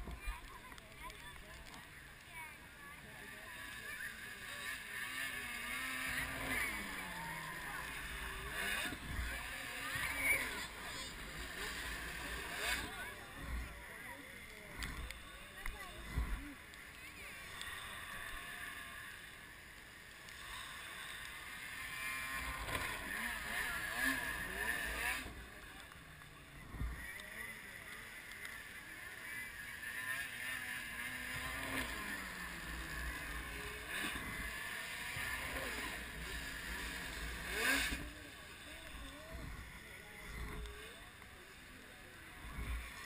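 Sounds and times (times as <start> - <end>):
distant snowmobile engine revving: 0.0 - 43.0.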